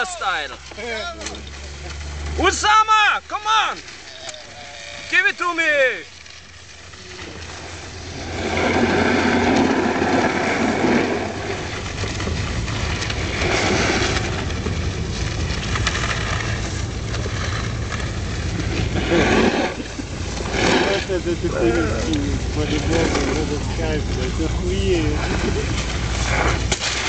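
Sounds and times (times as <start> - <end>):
car engine humming: 0.0 - 27.0
sled scraping over snow: 0.0 - 27.0.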